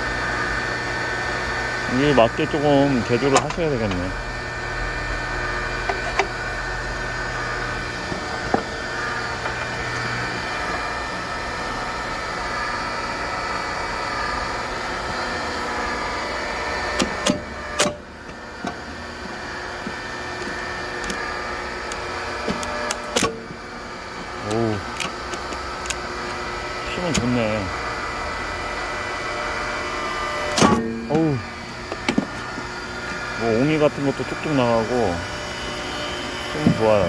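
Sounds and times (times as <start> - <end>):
hydraulic log splitter humming: 0.0 - 37.0.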